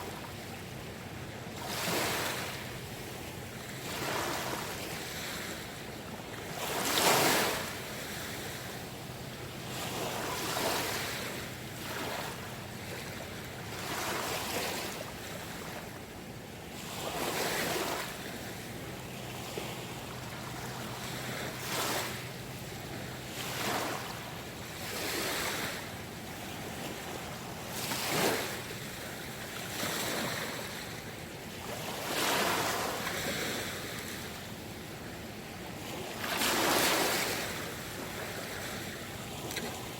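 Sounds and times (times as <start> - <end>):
small sea waves breaking: 1.4 - 16.0, 16.7 - 39.9.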